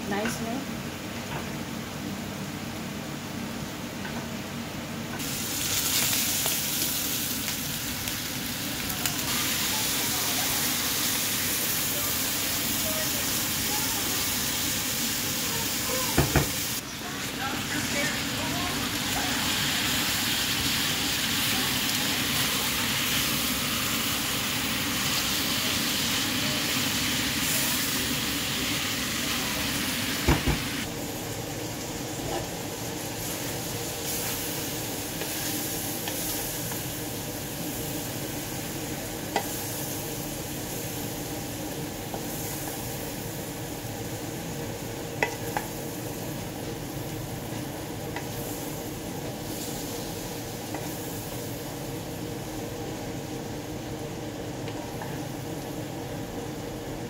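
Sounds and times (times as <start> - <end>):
stir-fry sizzling in a frying pan: 0.0 - 57.0.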